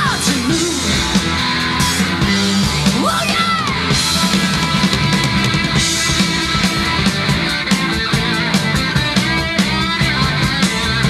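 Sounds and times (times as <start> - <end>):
electric guitar: 0.0 - 11.0
live rock band: 0.0 - 11.0.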